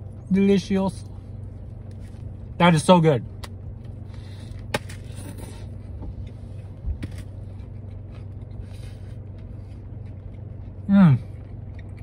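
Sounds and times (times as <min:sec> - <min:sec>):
chewing with soft crunches: 0:00.0 - 0:02.6, 0:03.3 - 0:12.0
low hum of car cabin: 0:00.0 - 0:12.0.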